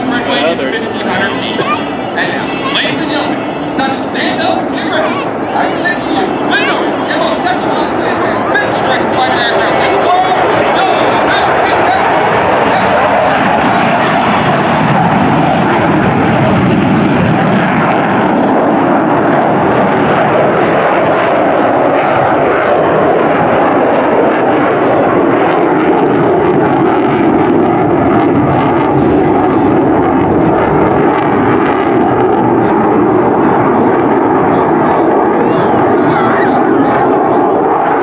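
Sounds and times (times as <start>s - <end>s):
jet engine roar: 0.0s - 38.0s.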